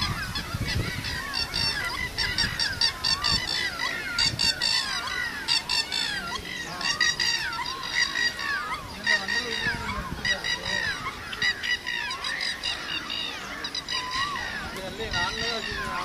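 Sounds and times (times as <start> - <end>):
birds honking: 0.0 - 16.0
birds whistling gliding notes: 0.0 - 16.0.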